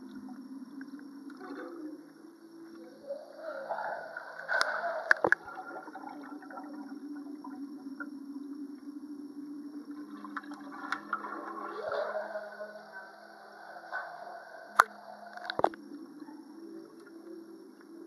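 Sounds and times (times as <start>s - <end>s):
water sloshing and gurgling: 0.0s - 17.3s.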